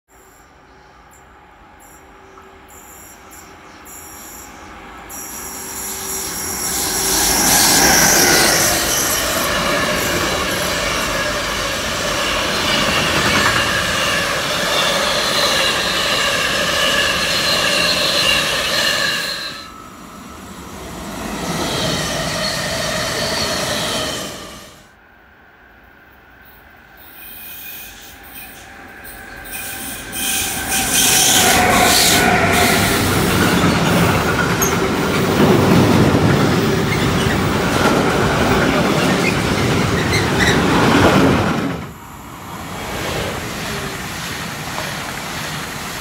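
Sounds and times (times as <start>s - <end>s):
freight train passing: 0.1s - 46.0s
electric train passing: 0.2s - 46.0s.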